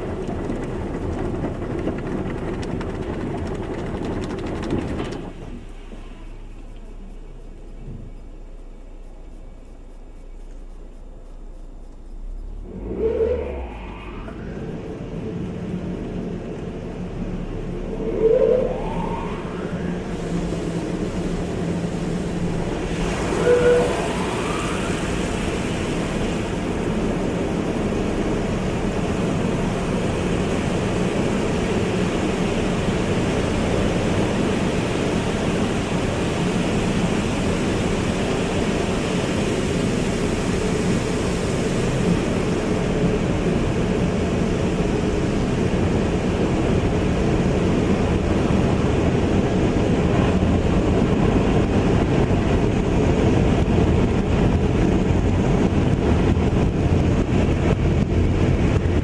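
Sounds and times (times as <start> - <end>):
car wash water spray and machinery: 0.0 - 59.0.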